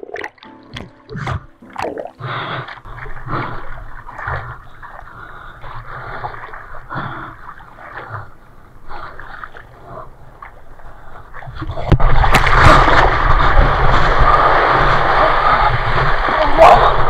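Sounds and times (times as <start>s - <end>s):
water splashing and rushing: 0.0s - 17.0s.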